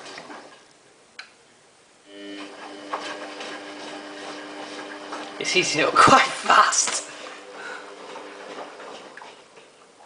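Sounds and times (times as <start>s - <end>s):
washing machine hum: 0.0s - 1.1s, 1.7s - 10.0s.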